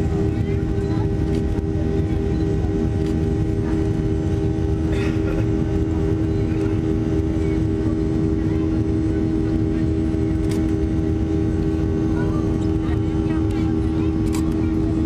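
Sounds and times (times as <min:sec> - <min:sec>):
airplane cabin drone: 0:00.0 - 0:15.0
constant low hum: 0:00.0 - 0:15.0.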